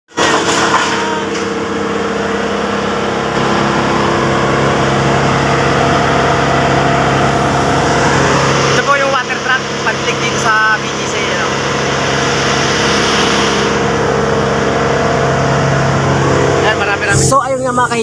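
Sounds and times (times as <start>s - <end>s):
wood chipper engine droning: 0.1s - 18.0s.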